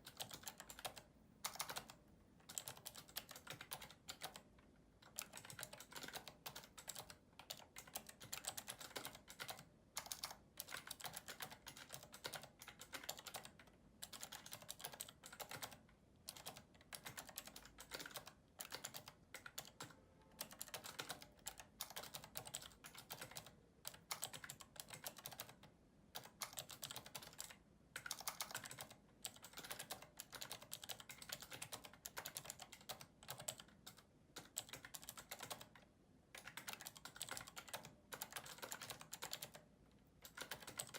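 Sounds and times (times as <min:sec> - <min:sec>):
clicky keyboard typing: 0:00.0 - 0:40.9.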